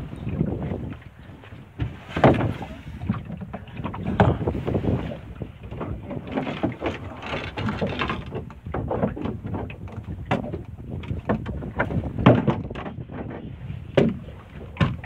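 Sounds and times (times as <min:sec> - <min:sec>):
knocks and rumble from boat: 0:00.0 - 0:15.0
water sloshing against boat: 0:00.0 - 0:15.0
wind buffeting microphone: 0:00.0 - 0:15.0.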